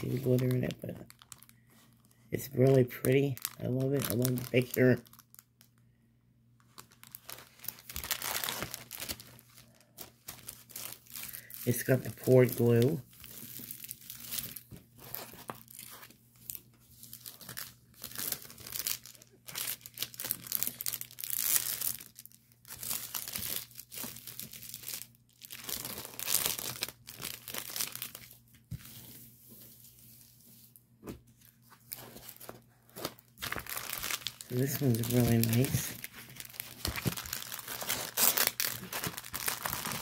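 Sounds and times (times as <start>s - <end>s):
plastic wrap crinkling: 0.0s - 5.8s, 6.6s - 30.3s, 31.3s - 40.0s.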